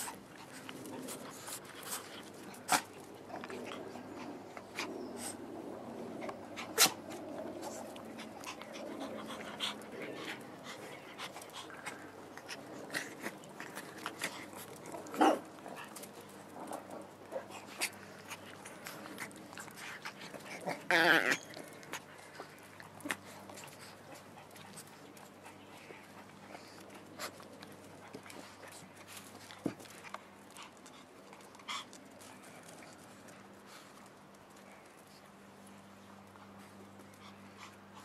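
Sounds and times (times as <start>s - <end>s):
dogs panting: 0.0s - 38.0s
soft clicks and rustles: 0.0s - 38.0s.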